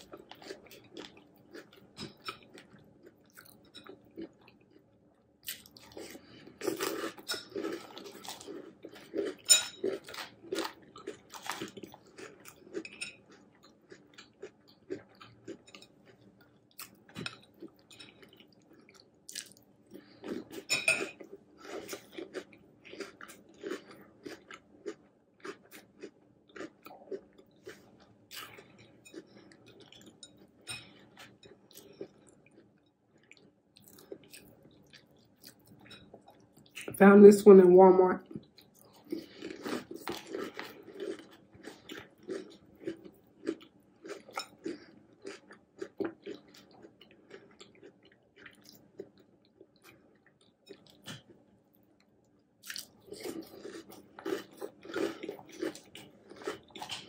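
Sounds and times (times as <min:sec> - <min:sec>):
crunchy chewing of cereal: 0:00.0 - 0:36.9, 0:38.2 - 0:57.0.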